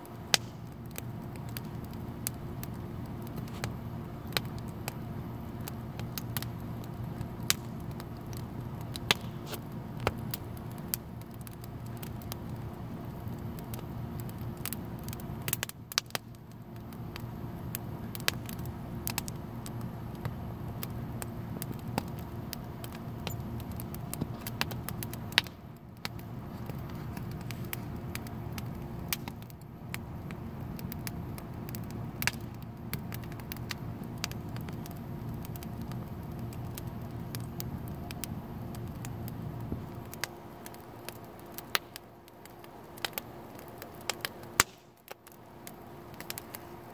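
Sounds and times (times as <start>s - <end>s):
steady low hum: 0.0s - 46.9s
wood fire crackling and popping: 0.0s - 46.9s.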